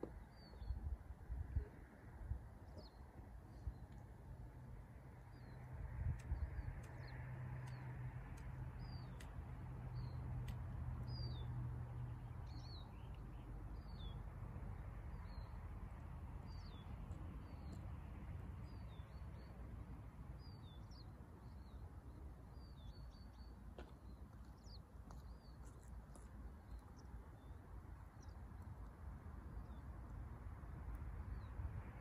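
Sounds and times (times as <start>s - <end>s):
songbird chirping: 2.6s - 30.1s.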